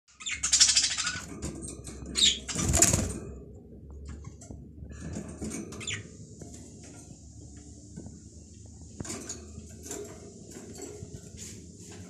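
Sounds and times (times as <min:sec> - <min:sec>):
bird rustling and scratching: 0:00.6 - 0:12.0.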